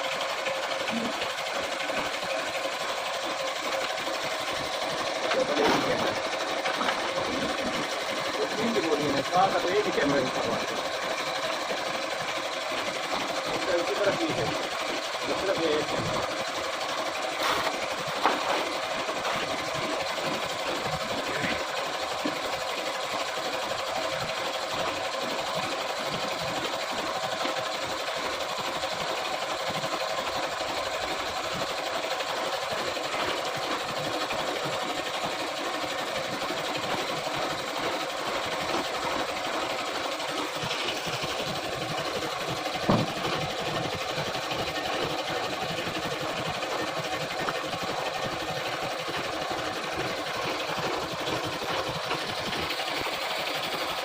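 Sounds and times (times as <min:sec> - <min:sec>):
machine mechanical chatter: 0:00.0 - 0:54.0.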